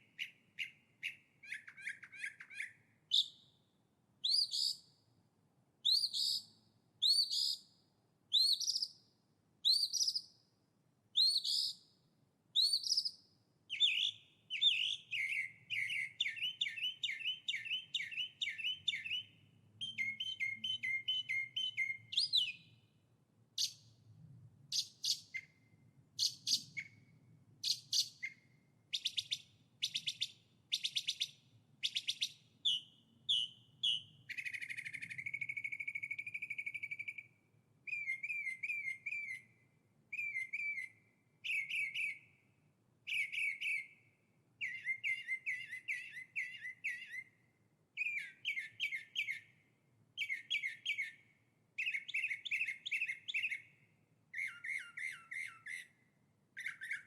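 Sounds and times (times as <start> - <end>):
songbird singing: 0.0 - 5.0, 5.8 - 23.0, 23.6 - 57.0.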